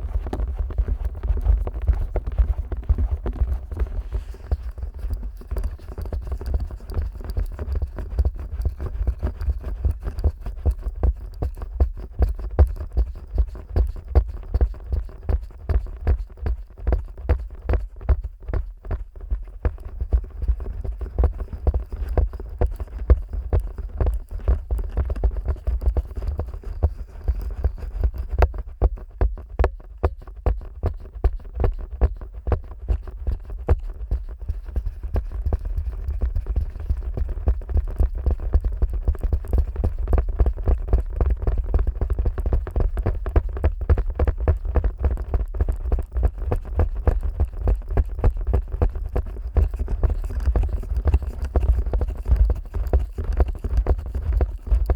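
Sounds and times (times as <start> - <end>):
fingers tapping and rubbing microphone: 0.0 - 54.9.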